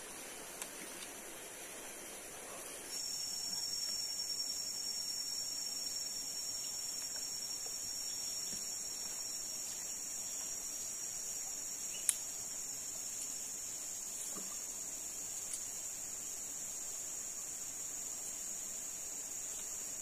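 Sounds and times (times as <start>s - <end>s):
high-pitched insect drone: 2.9s - 20.0s.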